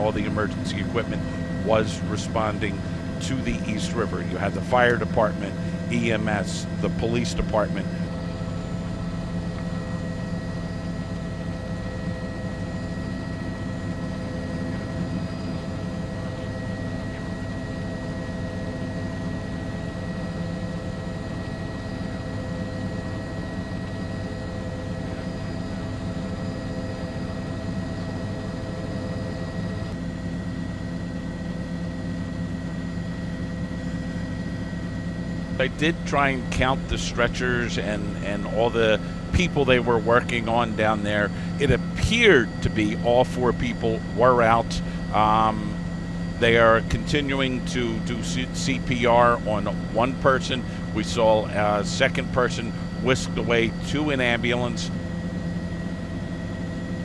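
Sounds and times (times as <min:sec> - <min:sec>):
helicopter engine and rotor drone: 0:00.0 - 0:57.0
thin high whine: 0:00.0 - 0:57.0.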